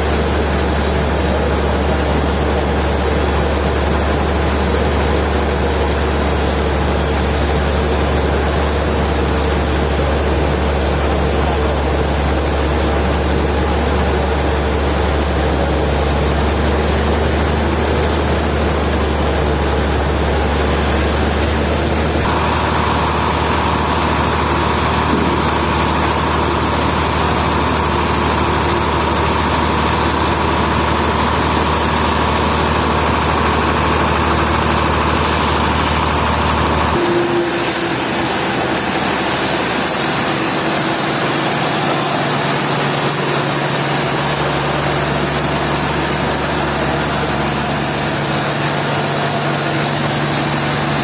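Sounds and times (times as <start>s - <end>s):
high-pitched machine whine: 0.0s - 51.0s
sawmill machinery humming: 0.0s - 51.0s.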